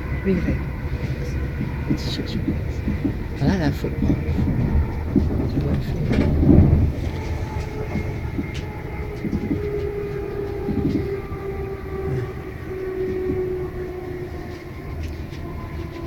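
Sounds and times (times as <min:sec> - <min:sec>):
steady whine: 0:00.0 - 0:16.0
train carriage rumbling on track: 0:00.0 - 0:16.0.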